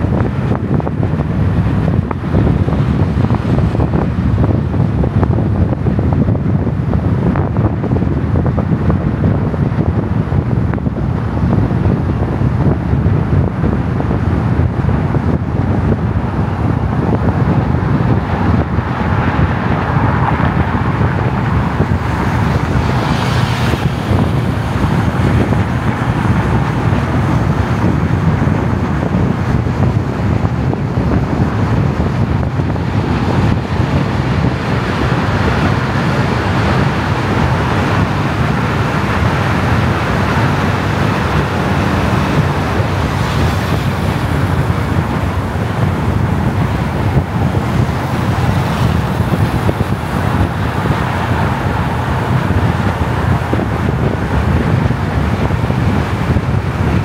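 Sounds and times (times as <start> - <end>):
car road noise: 0.0 - 57.0
wind noise: 0.0 - 57.0.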